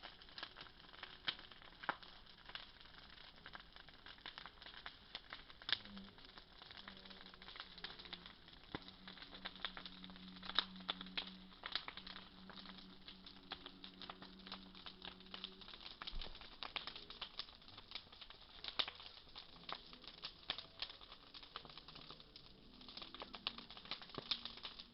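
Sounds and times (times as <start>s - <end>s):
bonfire crackling and popping: 0.0s - 24.9s.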